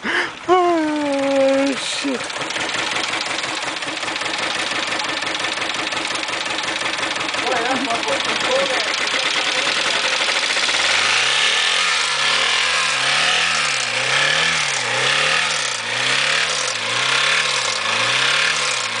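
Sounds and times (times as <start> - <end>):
car engine surging at full throttle: 0.0 - 19.0.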